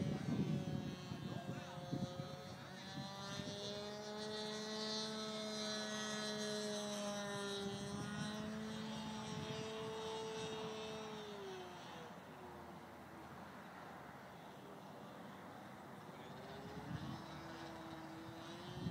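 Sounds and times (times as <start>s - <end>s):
model airplane engine drone: 0.0s - 18.9s.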